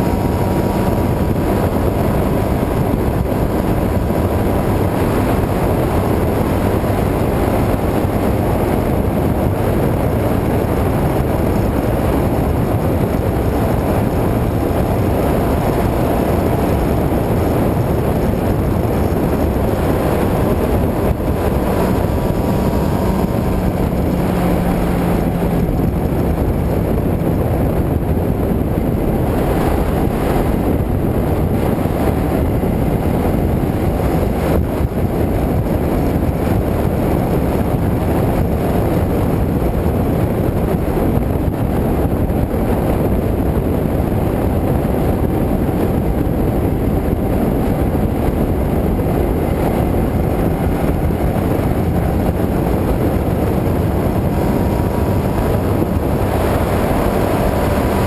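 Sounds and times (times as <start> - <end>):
motorcycle engine: 0.0 - 58.0
road noise: 0.0 - 58.0
wind rush on microphone: 0.0 - 58.0.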